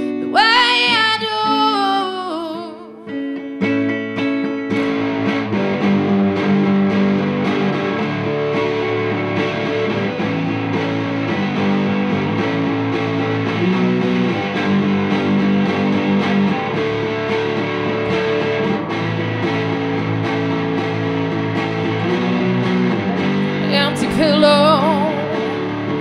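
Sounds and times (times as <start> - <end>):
electric guitar chords: 0.0 - 26.0.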